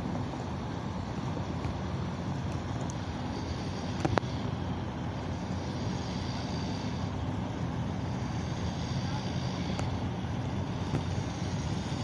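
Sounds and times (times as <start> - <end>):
small boat motor running: 0.0 - 12.0
water noise: 0.0 - 12.0
wind: 0.0 - 12.0.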